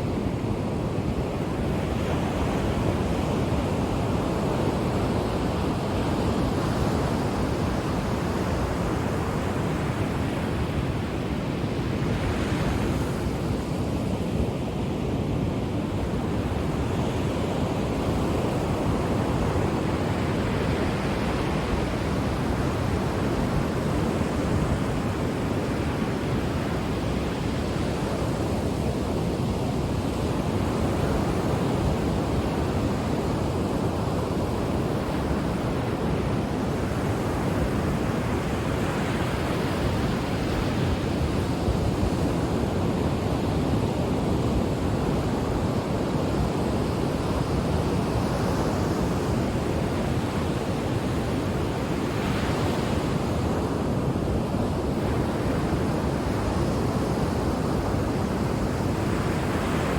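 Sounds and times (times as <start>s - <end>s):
ocean surf washing on shore: 0.0s - 59.9s.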